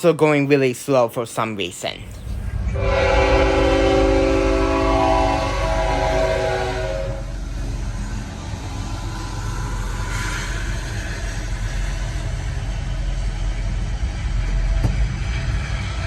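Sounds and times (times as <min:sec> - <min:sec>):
diesel locomotive engine rumble: 0:00.0 - 0:16.0
train wheels rolling on rails: 0:02.0 - 0:16.0.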